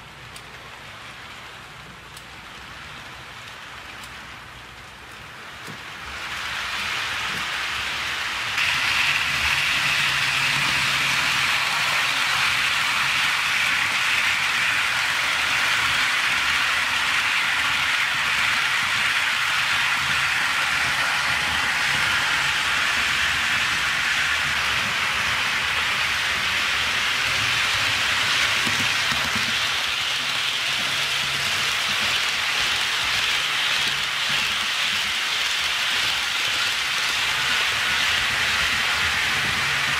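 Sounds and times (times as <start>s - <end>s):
model train wheels hissing on track: 0.0s - 39.9s.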